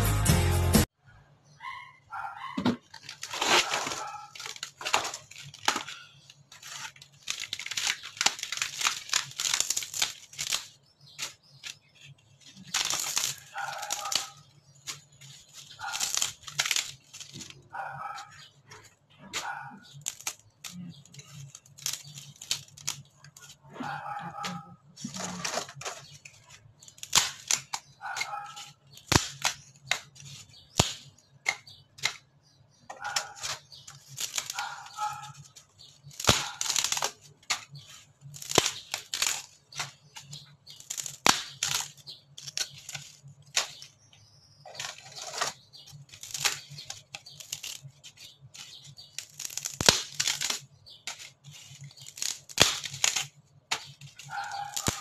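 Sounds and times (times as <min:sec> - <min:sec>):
ceiling board cracking and tearing: 0:02.8 - 0:23.7, 0:24.4 - 0:55.0.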